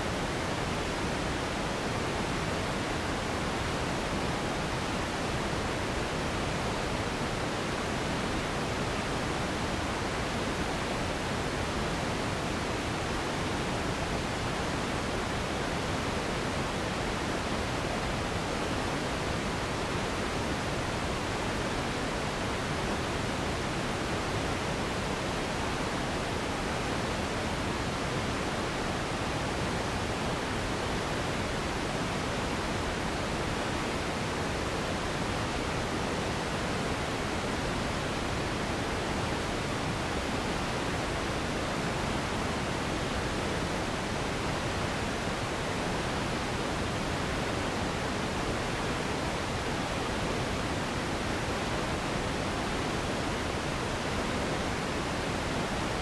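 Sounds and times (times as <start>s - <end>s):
steady pink noise hiss: 0.0s - 56.0s.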